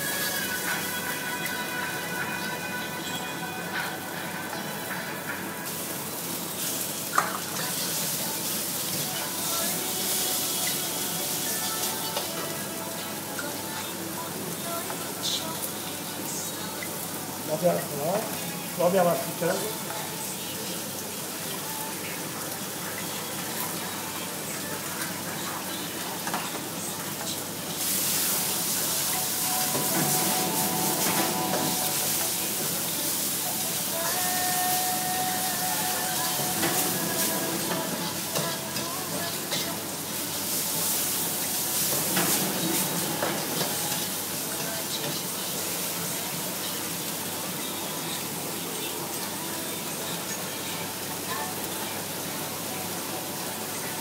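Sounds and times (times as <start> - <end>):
food sizzling in a wok: 0.0 - 54.0.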